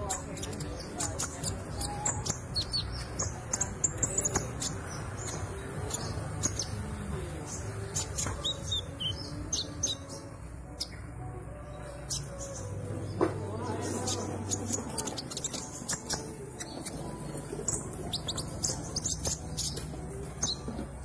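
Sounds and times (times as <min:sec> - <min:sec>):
bird twittering chirps and trills: 0:00.0 - 0:21.0.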